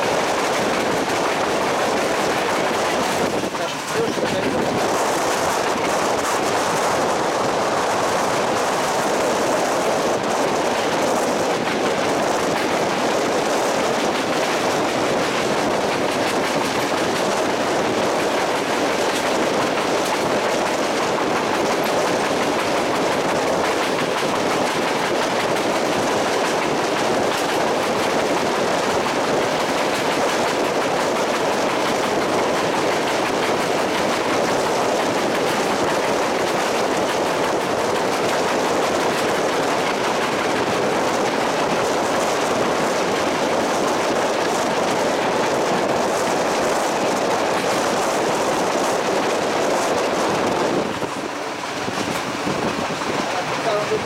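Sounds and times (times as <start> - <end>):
train wheels clicking on rails: 0.0 - 54.0.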